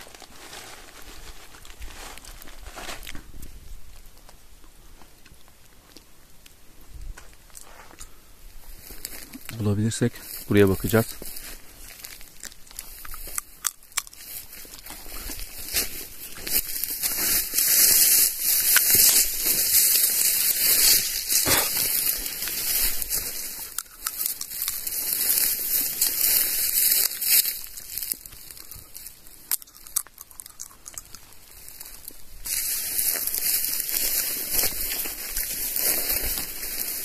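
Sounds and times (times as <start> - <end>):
footsteps through dry grass: 0.0 - 6.0, 7.0 - 37.0.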